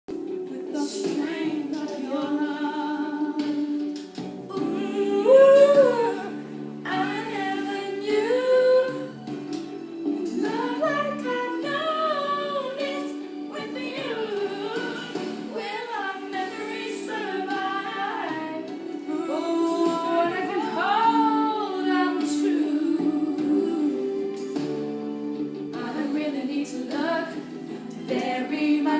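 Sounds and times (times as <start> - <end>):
woman singing: 0.4 - 3.9, 4.5 - 9.4, 10.0 - 24.6, 25.7 - 28.9.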